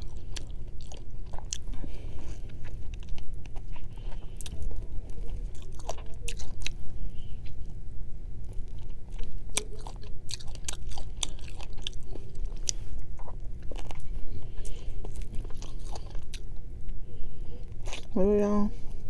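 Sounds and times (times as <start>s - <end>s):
person chewing chicken wing: 0.0s - 7.7s, 8.5s - 16.6s, 17.6s - 18.1s.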